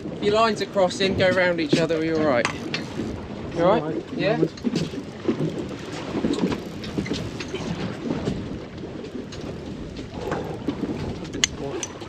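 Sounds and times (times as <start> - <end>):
wind and sea rumble: 0.0 - 12.0.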